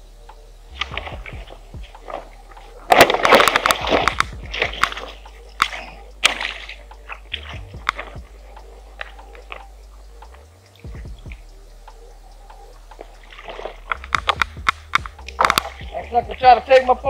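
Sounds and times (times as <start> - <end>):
fishing gear clicking and rattling: 0.3 - 17.0.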